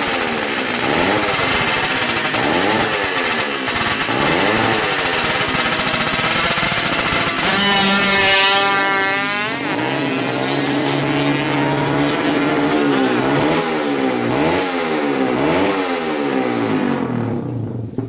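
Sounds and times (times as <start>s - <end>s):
two-stroke engine accelerating: 0.0s - 18.0s.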